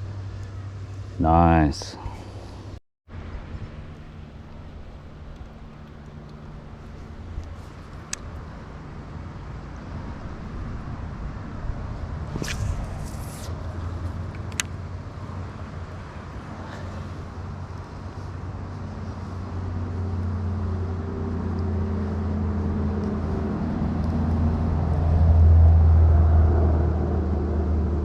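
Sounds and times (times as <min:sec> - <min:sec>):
vehicle engine drone: 0:00.0 - 0:28.0.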